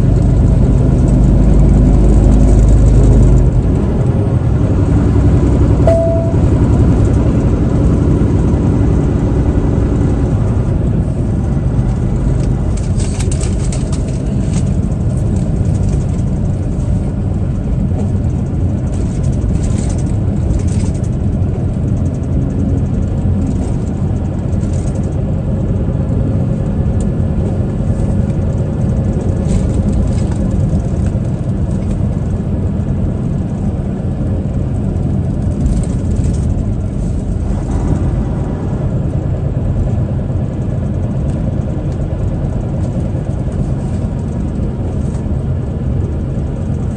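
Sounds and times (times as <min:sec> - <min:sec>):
truck driving on road: 0:00.0 - 0:46.9.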